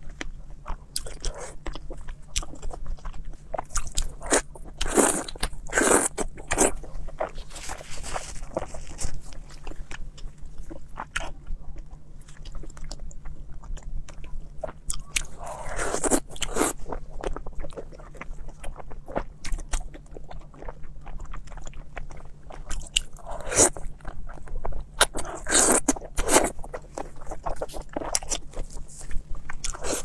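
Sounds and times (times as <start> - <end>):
wet chewing and lip-smacking: 0.0 - 30.0.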